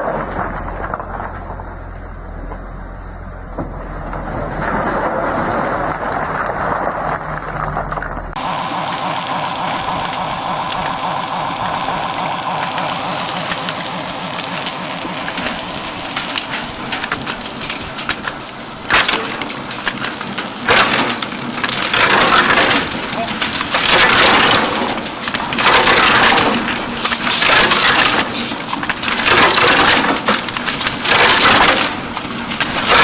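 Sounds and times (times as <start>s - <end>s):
wood cracking and splintering: 0.0s - 8.4s, 10.0s - 33.0s
heavy machinery running: 0.0s - 33.0s.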